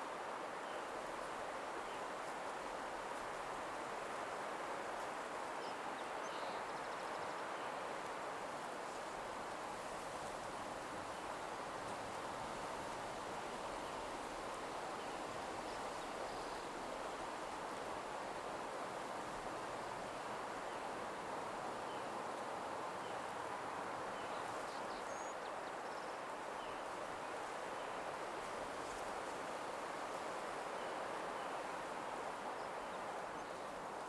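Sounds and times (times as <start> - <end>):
nature ambience hiss: 0.0 - 34.0.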